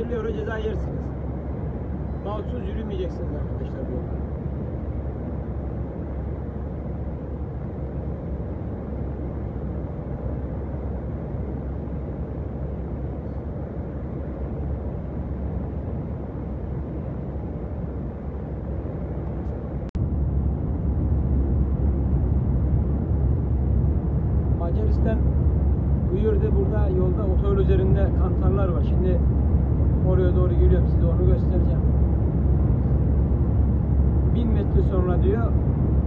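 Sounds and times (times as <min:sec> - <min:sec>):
truck engine and tyre rumble: 0:00.0 - 0:36.0.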